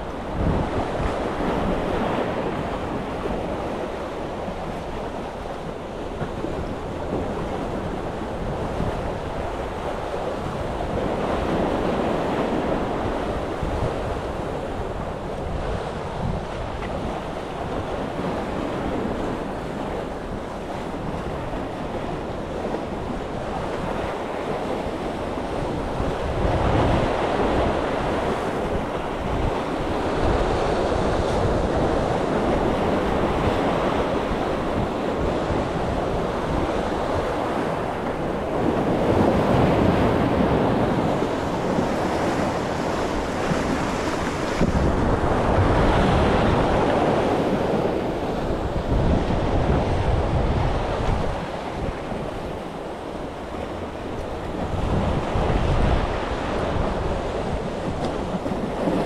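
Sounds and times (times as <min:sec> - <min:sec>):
waves breaking on breakwater: 0:00.0 - 0:59.0
wind buffeting microphone: 0:00.0 - 0:59.0.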